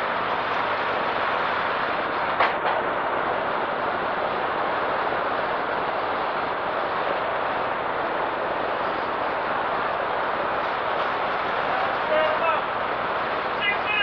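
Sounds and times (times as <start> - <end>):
propeller engines droning: 0.0 - 14.0
slipstream wind rushing: 0.0 - 14.0.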